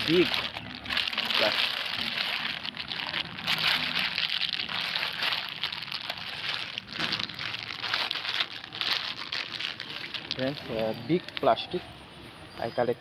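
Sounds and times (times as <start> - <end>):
plastic crinkling and rustling: 0.0 - 11.7.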